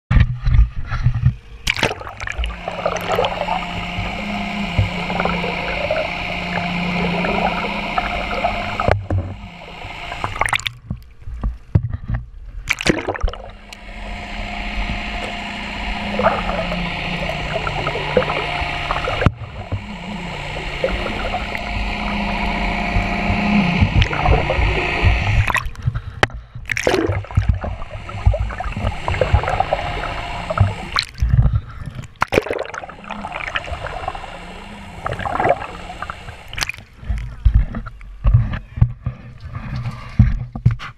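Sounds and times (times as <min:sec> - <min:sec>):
muffled water sloshing underwater: 0:00.1 - 0:40.9
boat engine hum: 0:00.3 - 0:40.6.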